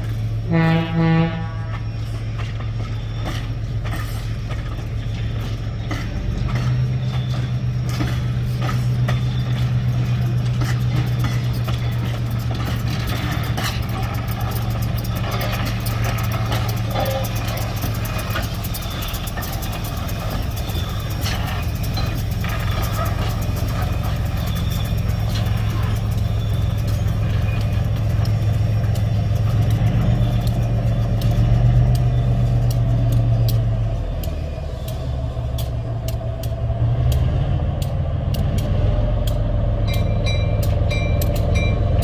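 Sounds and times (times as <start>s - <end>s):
steam locomotive rumbling: 0.0s - 42.0s
clanks and clicks: 1.7s - 42.0s.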